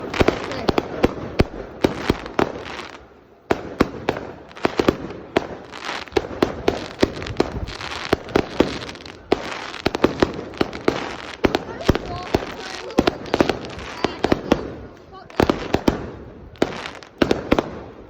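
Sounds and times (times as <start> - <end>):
fireworks bangs: 0.0 - 18.0
fireworks crackle: 0.0 - 18.0.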